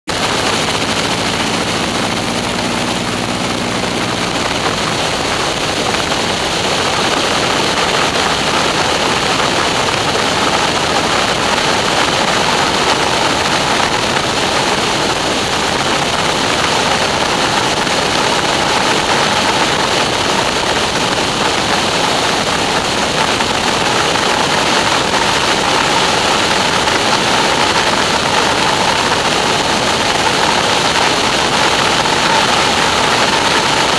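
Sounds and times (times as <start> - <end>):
radial engine hum: 0.1 - 33.9
wind rushing: 0.1 - 33.9.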